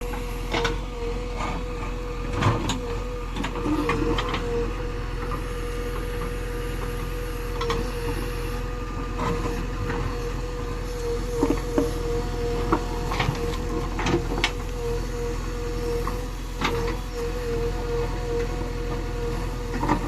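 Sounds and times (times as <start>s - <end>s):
constant whining tone: 0.0s - 20.0s
diesel engine running: 0.0s - 20.0s.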